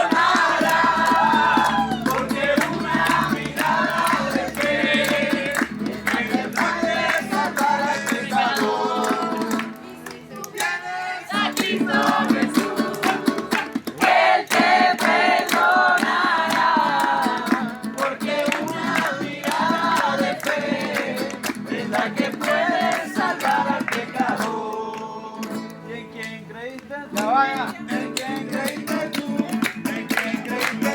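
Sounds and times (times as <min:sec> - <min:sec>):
strummed acoustic guitar: 0:00.0 - 0:10.5, 0:11.2 - 0:26.2, 0:27.1 - 0:30.9
group singing worship song: 0:00.0 - 0:25.8, 0:27.9 - 0:30.9.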